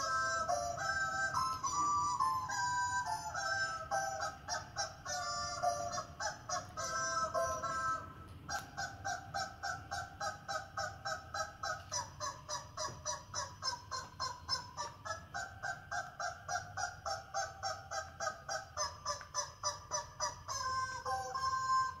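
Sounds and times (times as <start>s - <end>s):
dog whining: 0.0s - 22.0s.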